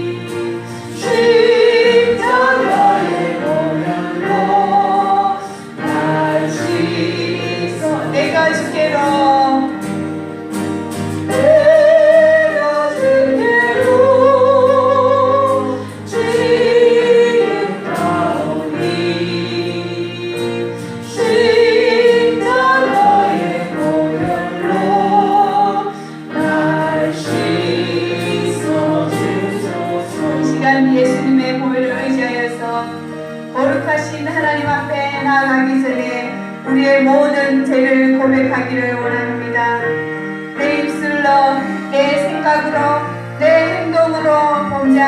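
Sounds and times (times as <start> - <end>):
congregation singing a hymn: 0.0 - 10.1, 10.9 - 45.0
instrumental accompaniment: 0.0 - 45.0.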